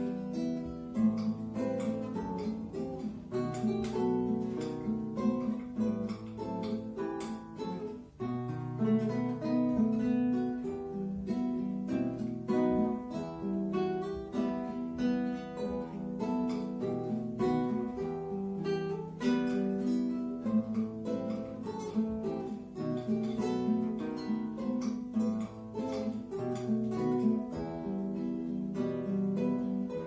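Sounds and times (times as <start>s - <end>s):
classical guitar duet: 0.0s - 30.0s.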